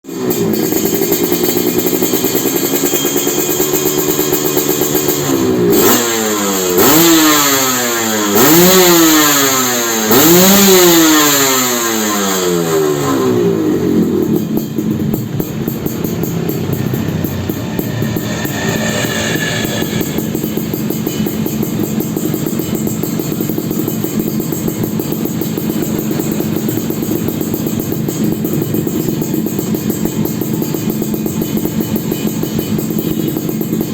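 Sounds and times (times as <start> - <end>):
two-stroke engine idling and revving: 0.0 - 33.9.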